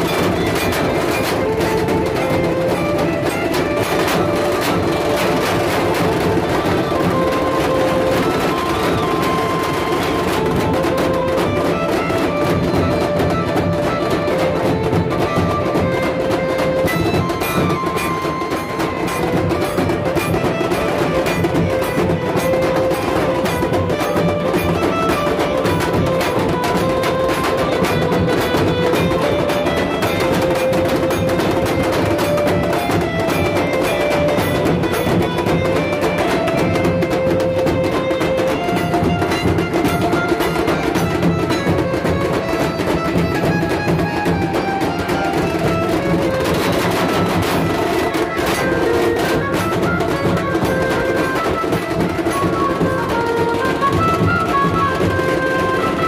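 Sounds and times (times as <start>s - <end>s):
barrel drums beaten with sticks: 0.0s - 56.0s.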